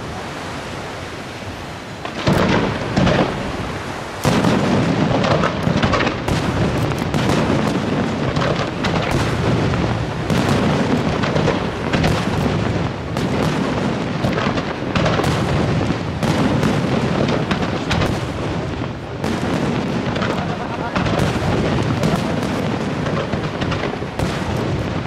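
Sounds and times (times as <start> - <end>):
firework shells bursting: 4.2 - 25.0.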